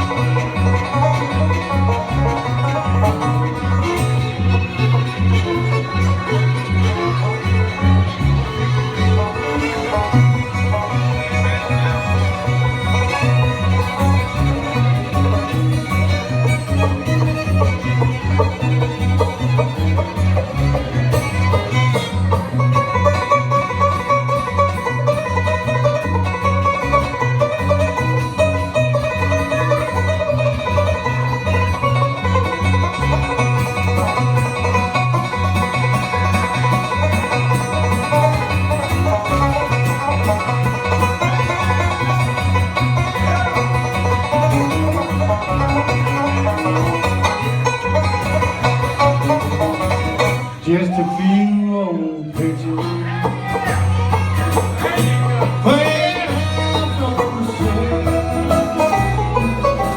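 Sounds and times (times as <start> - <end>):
banjo: 0.0 - 51.6, 52.2 - 59.9
bass line: 0.0 - 59.9
fiddle: 0.0 - 59.9
guitar: 0.0 - 59.9.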